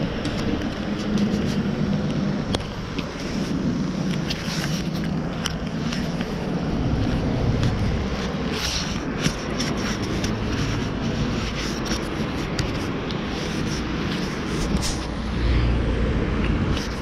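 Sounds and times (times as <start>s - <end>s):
hand rubbing against jacket: 0.0s - 15.4s
motorcycle engine rumbling: 0.0s - 17.0s.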